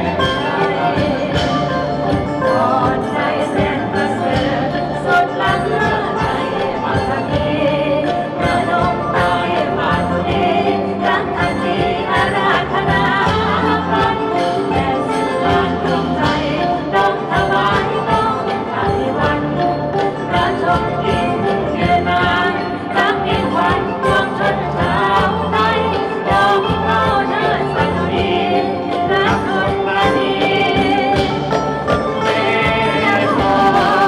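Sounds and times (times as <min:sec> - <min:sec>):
melodic instruments: 0:00.0 - 0:34.0
percussion beat: 0:00.0 - 0:34.0.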